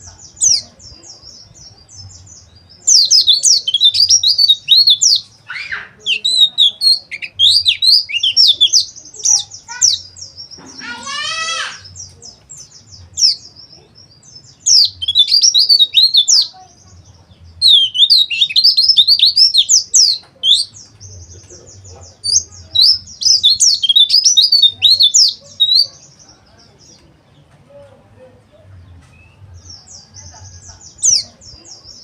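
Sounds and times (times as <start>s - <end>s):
birds twittering and trilling: 0.0s - 32.0s.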